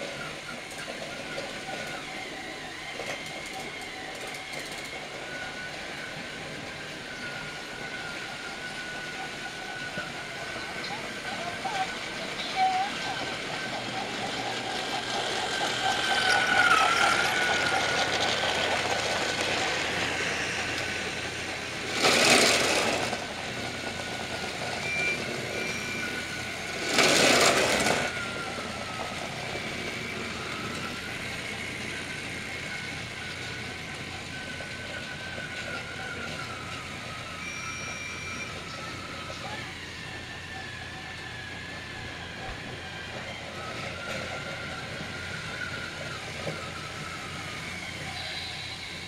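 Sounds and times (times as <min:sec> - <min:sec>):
toy train motors whining: 0:00.0 - 0:49.0.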